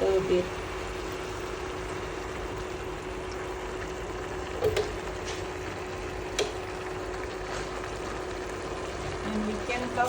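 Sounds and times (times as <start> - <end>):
stock simmering in a pan: 0.0 - 10.0.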